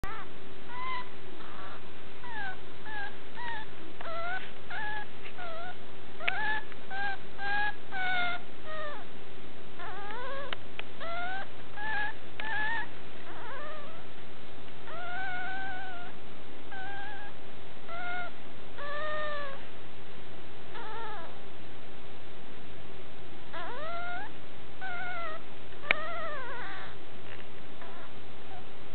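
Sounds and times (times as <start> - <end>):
puppy whining: 0.0 - 9.1, 9.8 - 14.1, 14.8 - 19.7, 20.7 - 21.4, 23.5 - 28.7.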